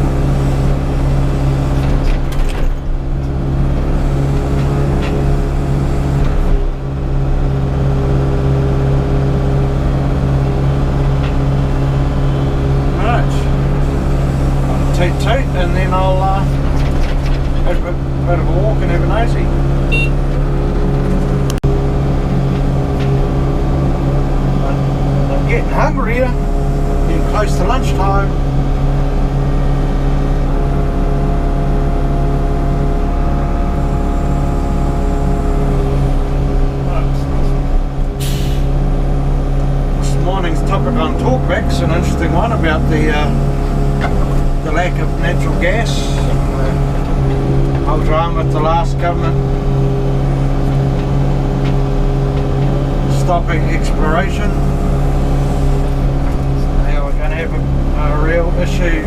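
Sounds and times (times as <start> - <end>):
excavator diesel engine hum: 0.0 - 59.0.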